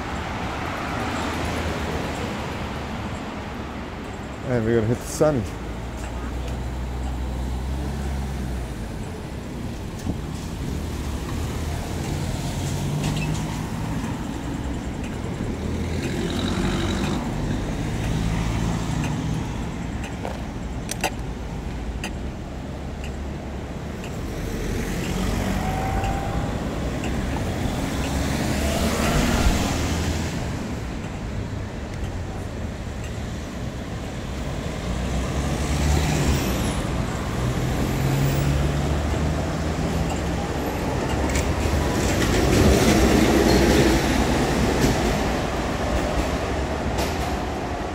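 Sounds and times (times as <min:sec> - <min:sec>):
cars passing with tyre noise: 0:00.0 - 0:47.9
engine rumble: 0:00.0 - 0:47.9.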